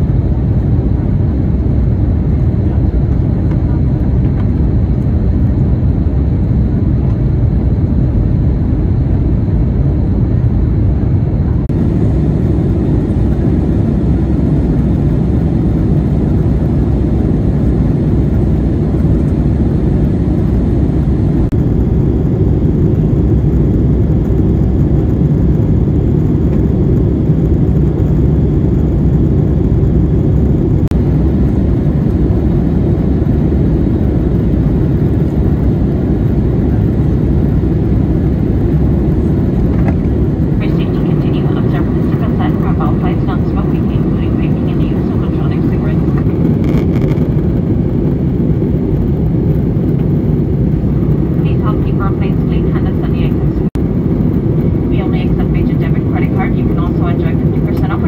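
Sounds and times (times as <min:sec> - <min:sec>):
jet engines at climb power: 0:00.0 - 0:58.0.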